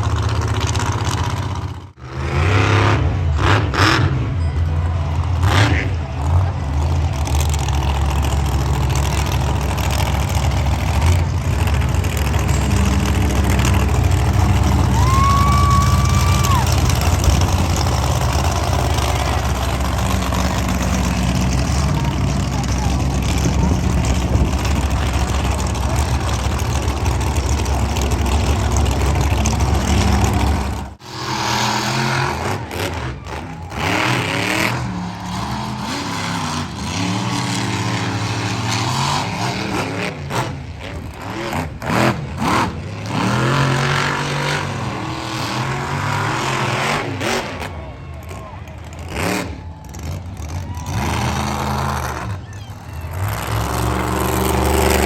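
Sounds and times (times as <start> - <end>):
engines revving: 0.0 - 55.0
monster truck engines rumbling: 0.0 - 55.0.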